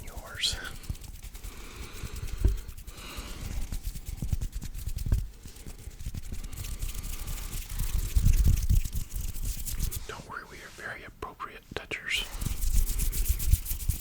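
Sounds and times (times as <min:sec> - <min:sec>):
hands rubbing and clapping: 0:00.0 - 0:10.1, 0:12.1 - 0:14.0.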